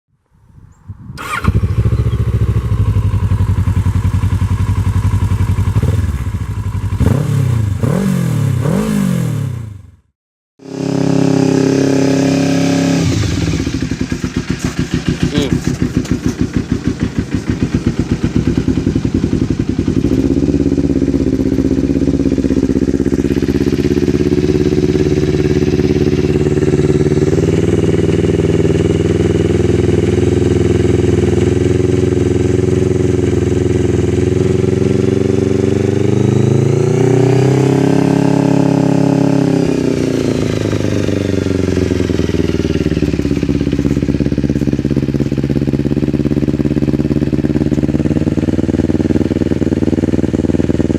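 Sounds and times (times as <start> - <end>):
motorcycle engine idling and revving: 0.6 - 50.9.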